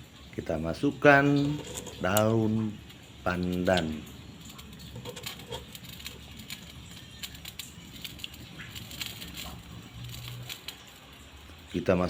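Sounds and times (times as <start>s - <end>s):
leaves crinkling: 0.0s - 12.0s.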